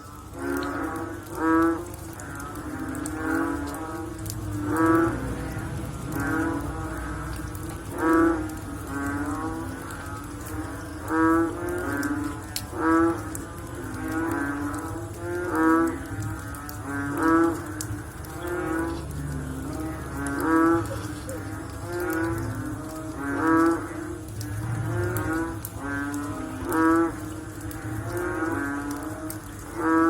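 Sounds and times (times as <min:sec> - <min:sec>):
frogs calling: 0:00.0 - 0:30.0.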